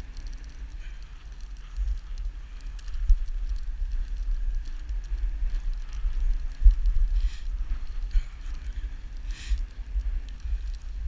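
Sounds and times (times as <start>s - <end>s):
dogs' paws pattering: 0.0s - 11.0s.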